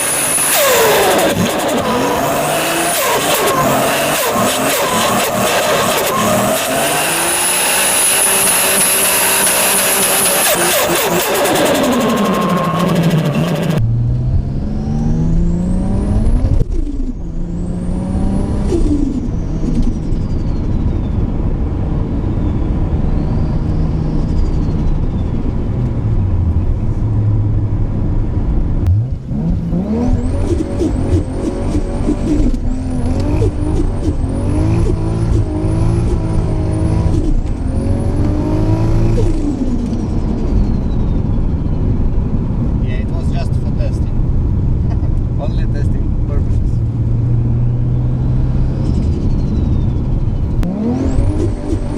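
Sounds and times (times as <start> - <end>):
car engine revving: 0.0 - 20.7, 23.2 - 51.9.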